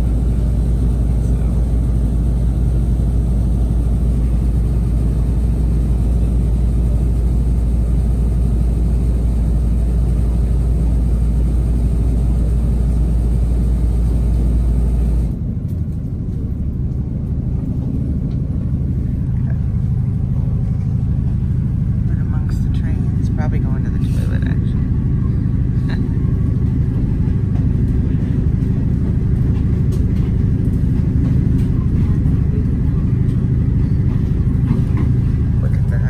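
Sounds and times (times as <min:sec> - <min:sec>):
moving train rumble: 0:00.0 - 0:36.0.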